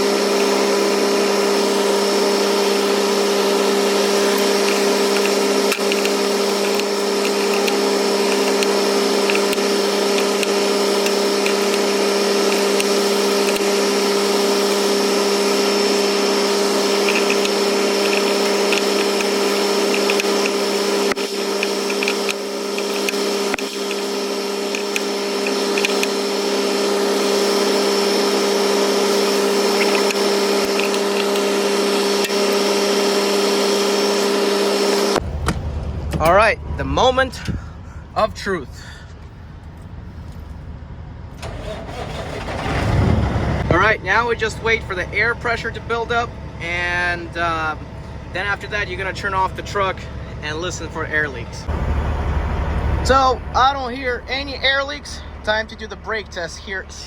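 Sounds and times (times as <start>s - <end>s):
steady machine drone: 0.0s - 57.0s.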